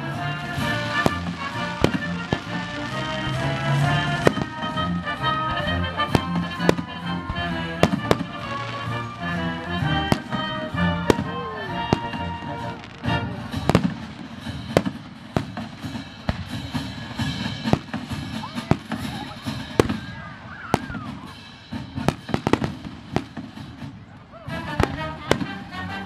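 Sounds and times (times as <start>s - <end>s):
symphony orchestra playing: 0.0s - 23.3s, 24.5s - 26.0s
fireworks bursting: 0.0s - 26.0s.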